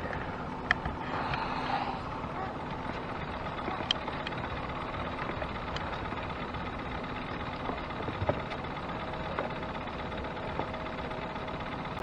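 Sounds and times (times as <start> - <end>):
distant motorboat engine hum: 0.0 - 12.0.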